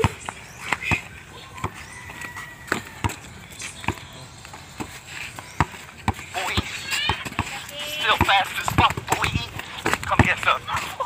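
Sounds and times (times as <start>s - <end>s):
basketball bouncing on dirt: 0.0s - 11.0s.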